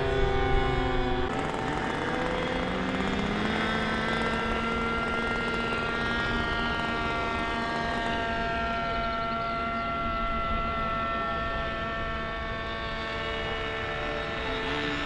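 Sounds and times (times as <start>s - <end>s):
model aircraft motor whine: 0.0s - 15.0s.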